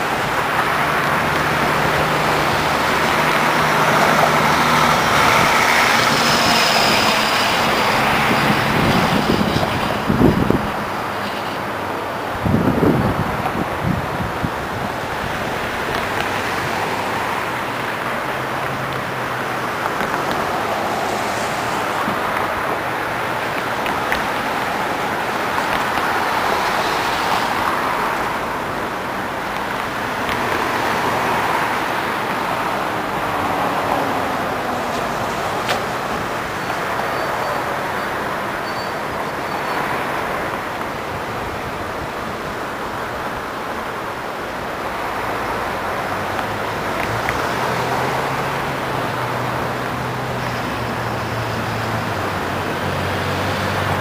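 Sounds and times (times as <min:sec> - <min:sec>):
cars passing: 0:00.0 - 0:54.0
river water rushing over dam: 0:00.0 - 0:54.0.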